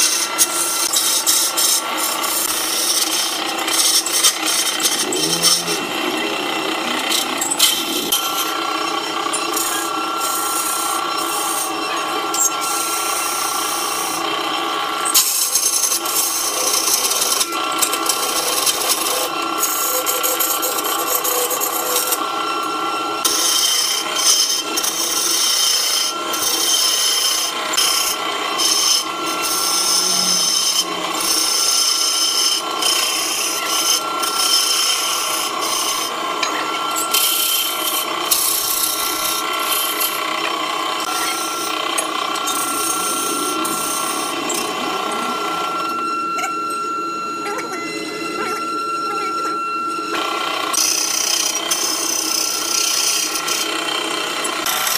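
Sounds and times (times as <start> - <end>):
chisel scraping on wood lathe: 0.0 - 22.3, 23.2 - 46.9, 50.1 - 54.9
lathe motor whine: 0.0 - 54.9.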